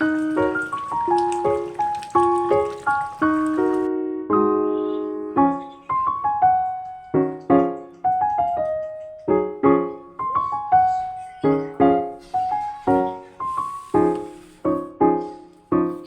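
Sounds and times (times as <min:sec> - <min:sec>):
solo piano melody: 0:00.0 - 0:16.0.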